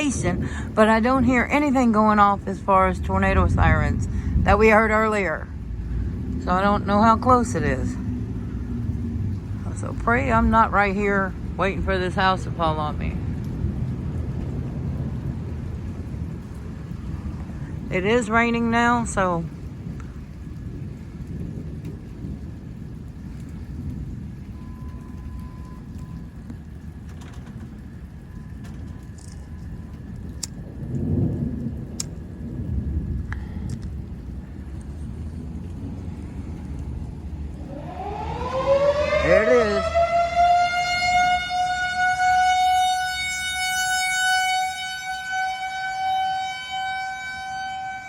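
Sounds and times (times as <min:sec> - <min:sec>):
faint ticks of raindrops: 0:00.0 - 0:48.0
low thunder rumble: 0:00.0 - 0:48.0
steady rain: 0:00.0 - 0:48.0
tornado siren wailing: 0:00.0 - 0:48.0.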